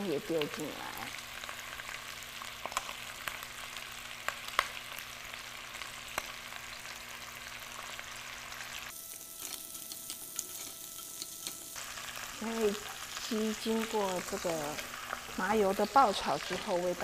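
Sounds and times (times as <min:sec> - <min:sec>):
chicken sizzling with pops: 0:00.0 - 0:17.0.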